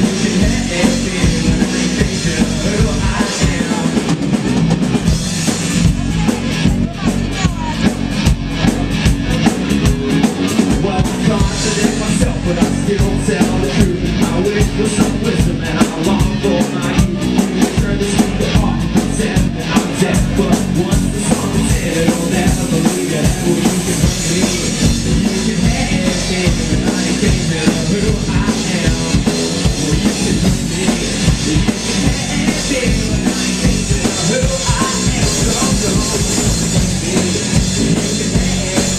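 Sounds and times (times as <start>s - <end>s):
drum kit fast beat: 0.0s - 38.9s
rock band playing live: 0.0s - 38.9s.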